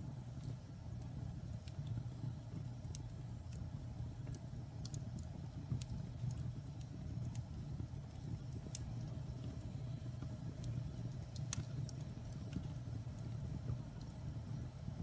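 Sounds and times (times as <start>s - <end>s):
low rumble of flames: 0.0s - 15.0s
logs crackling and popping: 0.4s - 15.0s.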